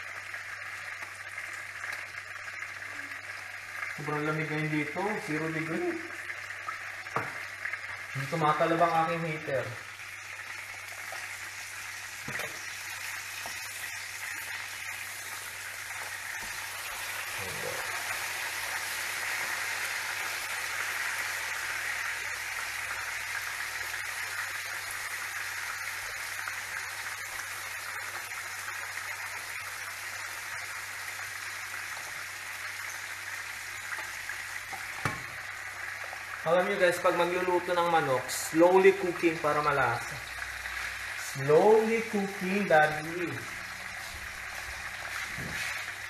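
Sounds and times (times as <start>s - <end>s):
chicken sizzling in hot oil: 0.0s - 46.0s.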